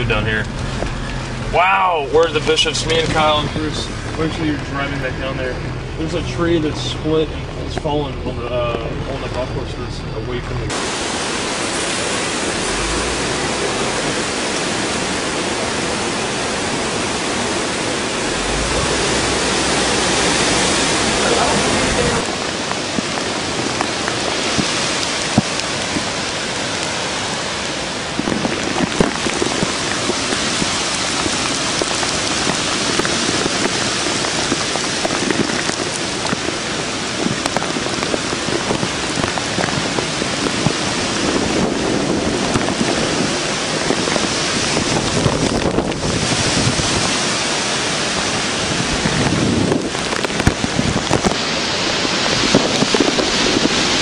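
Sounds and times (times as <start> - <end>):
heavy wind-driven rain: 0.0 - 54.0.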